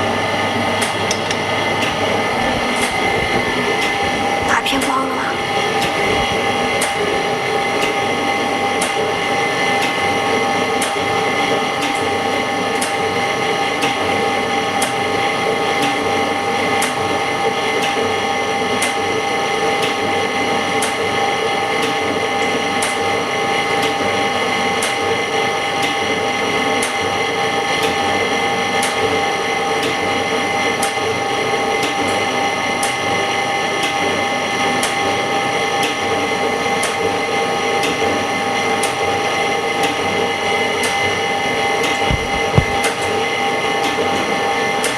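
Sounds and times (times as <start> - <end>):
machine hum with fixed tones: 0.0 - 44.9.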